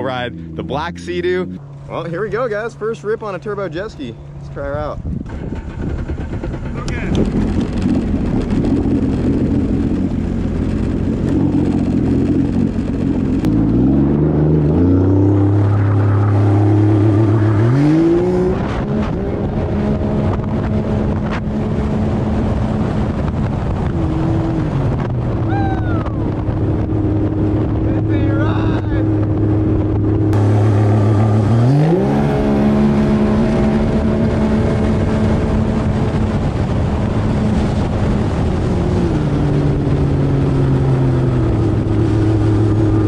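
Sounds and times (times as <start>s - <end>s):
jet ski engine revving: 4.6s - 43.0s.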